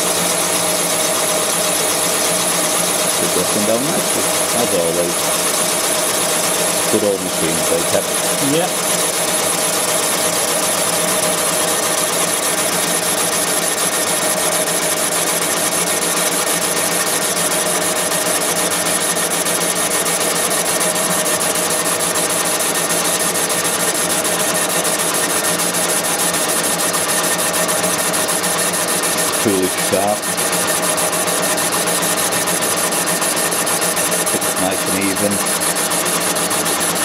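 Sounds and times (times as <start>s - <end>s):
boring machine whining: 0.0s - 37.0s.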